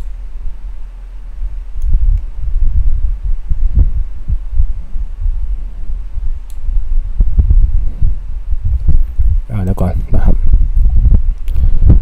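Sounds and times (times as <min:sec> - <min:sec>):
low uneven rumble: 0:00.0 - 0:12.0
steady microphone hum: 0:00.0 - 0:12.0.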